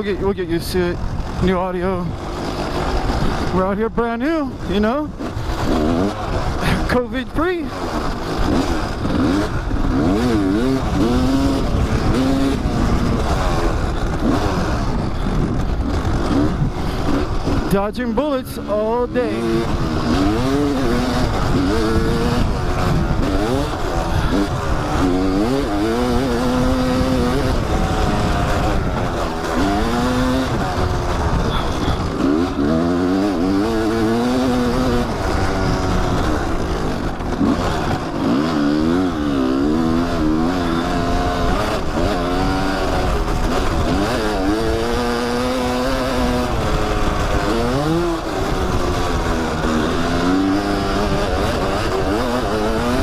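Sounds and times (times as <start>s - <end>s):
dirt bike engine revving: 0.0s - 53.0s
steady rushing noise: 0.0s - 53.0s.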